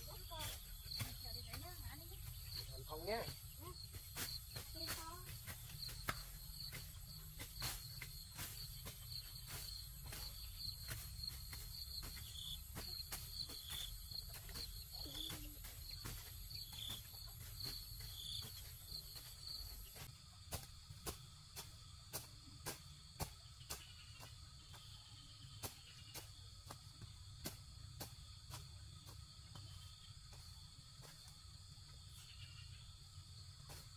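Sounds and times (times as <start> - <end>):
insects chirping in a trill: 0.0 - 33.9.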